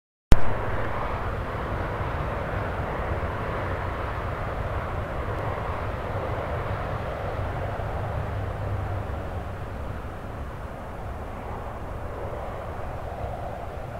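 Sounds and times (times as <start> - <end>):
low hum: 0.3 - 13.8
jet airliner rushing: 0.3 - 13.9.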